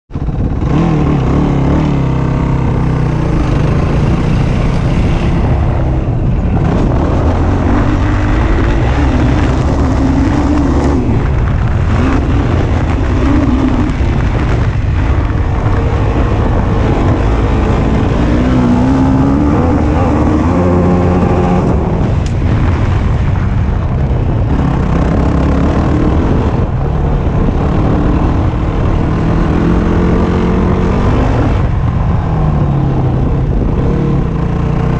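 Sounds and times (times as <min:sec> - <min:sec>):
quad engine revving: 0:00.2 - 0:22.9, 0:24.5 - 0:31.8.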